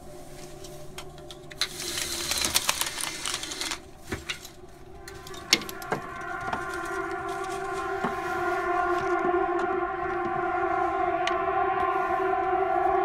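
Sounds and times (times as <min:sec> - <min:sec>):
overlapping horn-like siren tones: 0:00.0 - 0:13.0.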